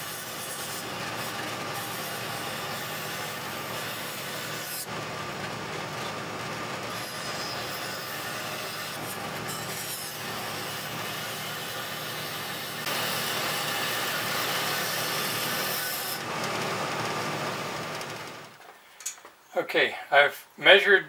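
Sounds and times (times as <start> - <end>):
bandsaw cutting: 0.0 - 18.6.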